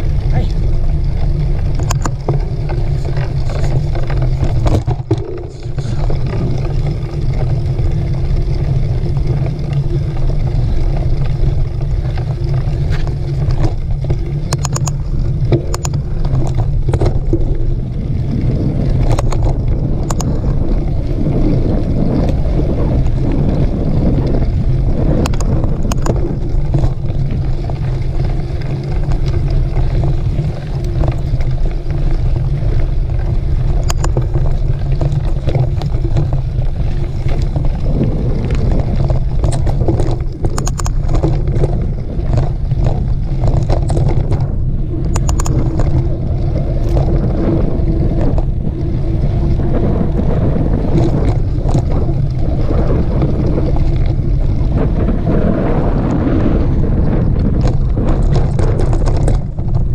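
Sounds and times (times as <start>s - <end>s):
bike clicking and rattling: 0.0s - 59.9s
wind rumble on microphone: 0.0s - 59.9s.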